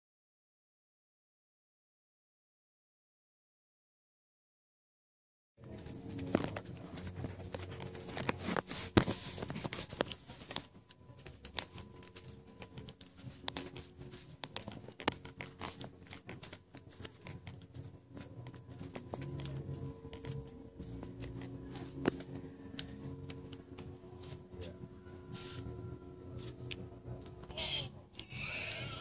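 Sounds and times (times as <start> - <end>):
steady hum: 5.6 - 29.0.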